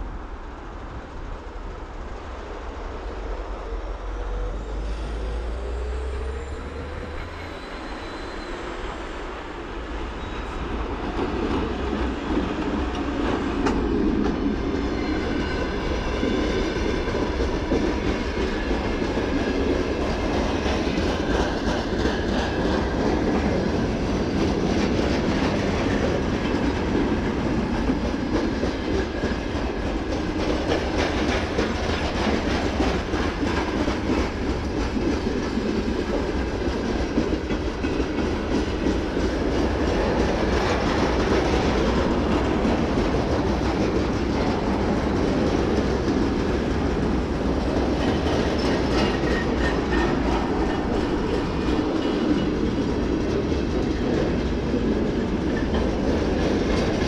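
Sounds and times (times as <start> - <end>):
electric locomotive passing: 0.0 - 57.0
train wheels clacking on rail joints: 10.2 - 57.0.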